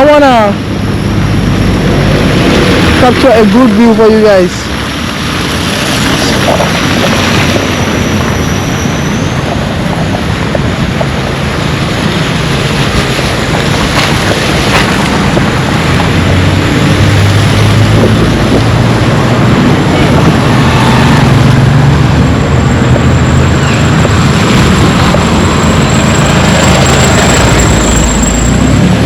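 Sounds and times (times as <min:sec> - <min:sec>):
vehicle engine hum: 0:00.0 - 0:29.0.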